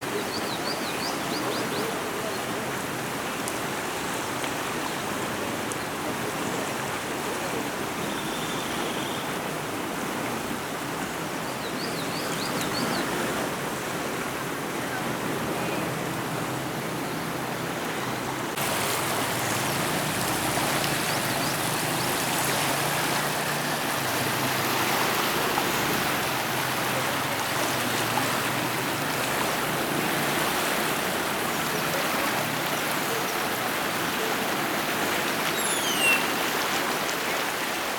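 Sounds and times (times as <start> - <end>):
river water rushing: 0.0 - 37.9.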